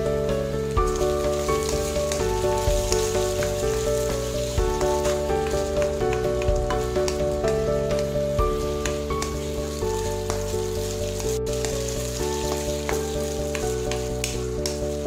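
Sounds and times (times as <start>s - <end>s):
instrumental background music: 0.0s - 15.0s
meat sizzling in a wok: 0.7s - 15.0s
wooden spatula stirring: 0.9s - 15.0s.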